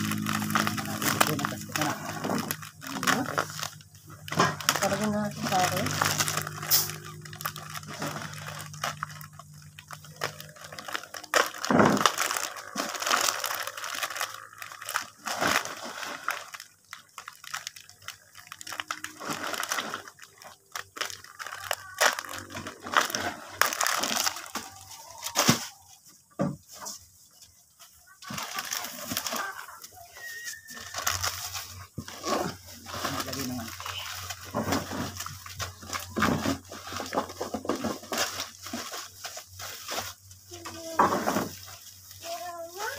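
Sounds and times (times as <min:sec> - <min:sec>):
plastic bags rustling and crinkling: 0:00.0 - 0:42.9.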